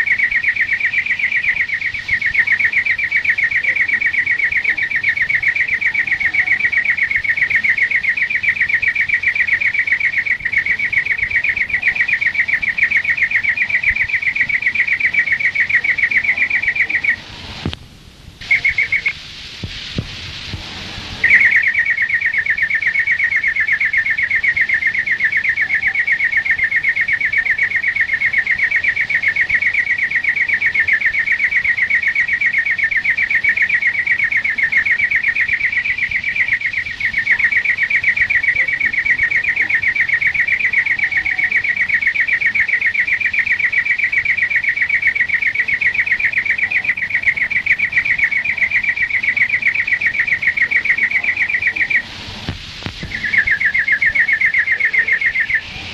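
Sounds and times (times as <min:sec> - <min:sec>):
finch singing rapid trill: 0:00.0 - 0:17.2, 0:18.4 - 0:19.2, 0:21.2 - 0:52.1, 0:53.0 - 0:55.9.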